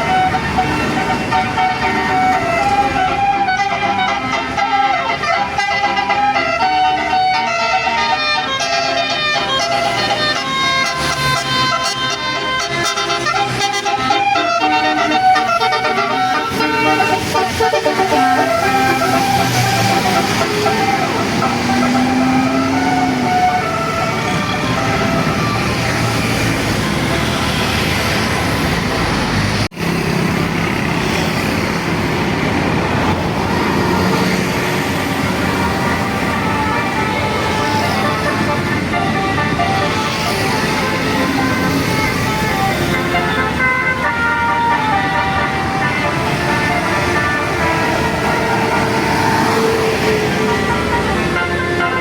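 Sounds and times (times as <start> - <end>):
multi-tone bus horn melody: 0.0 - 31.3, 32.8 - 52.0
road traffic: 0.0 - 52.0.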